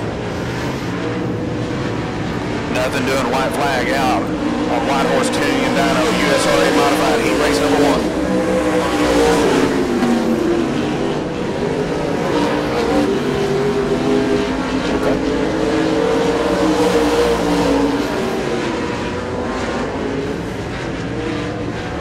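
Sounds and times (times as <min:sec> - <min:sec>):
race car engines racing: 0:00.0 - 0:22.0.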